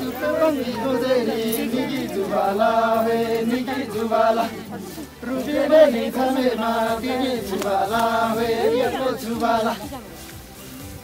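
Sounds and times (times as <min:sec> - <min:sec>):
group of voices singing folk song: 0:00.0 - 0:11.0.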